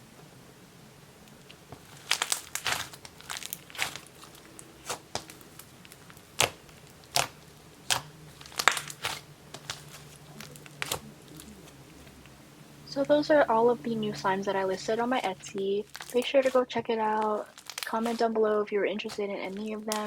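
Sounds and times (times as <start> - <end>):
slime popping and crackling: 1.3 - 20.0.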